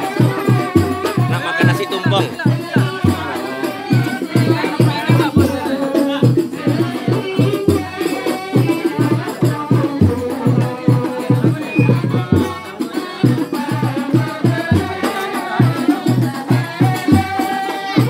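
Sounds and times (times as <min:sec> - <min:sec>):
loud music with drum beat: 0:00.0 - 0:18.0.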